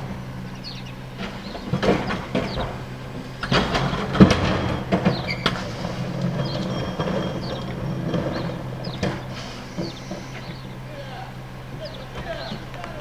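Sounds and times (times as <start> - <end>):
garbage truck diesel engine running: 0.0 - 13.0
metal clanks and bangs: 0.0 - 13.0.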